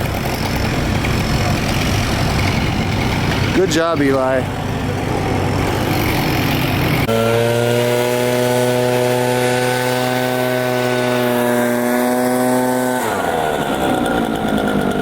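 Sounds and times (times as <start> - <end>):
another engine running: 0.0 - 15.0
chainsaw at high revs: 0.0 - 15.0.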